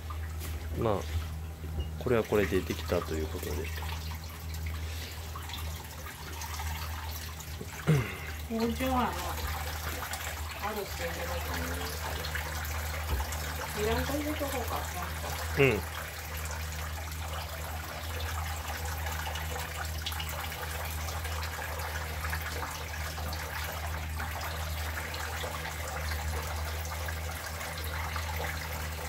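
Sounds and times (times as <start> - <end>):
water running from tap: 0.0 - 29.0.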